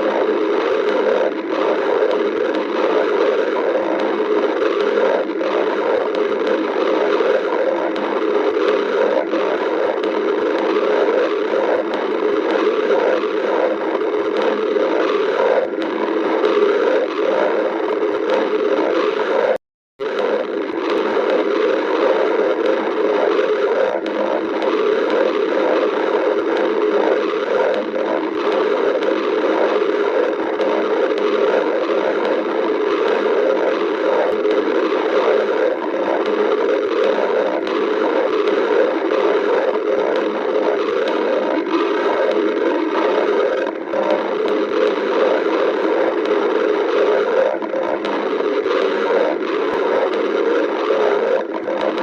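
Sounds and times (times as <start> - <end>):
stomach growling: 0.0 - 52.0.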